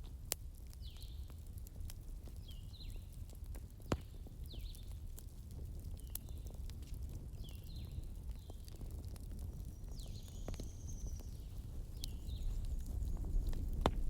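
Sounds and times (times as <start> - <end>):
low rumble of fire: 0.0 - 14.0
wood fire crackling and popping: 0.0 - 14.0.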